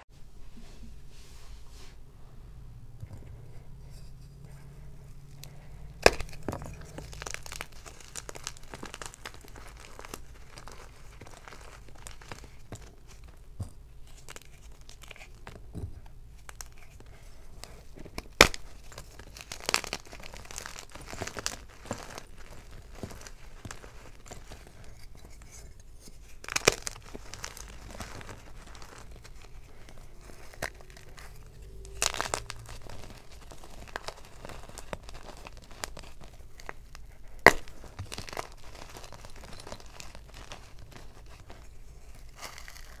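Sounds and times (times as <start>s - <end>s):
chalk crumbling and crunching: 3.1s - 43.0s
chalk pieces cracking: 3.9s - 43.0s.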